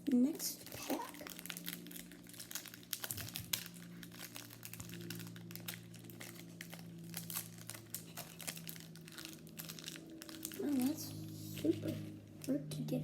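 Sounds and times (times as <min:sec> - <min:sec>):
foil wrapper crinkling: 0:00.0 - 0:12.5.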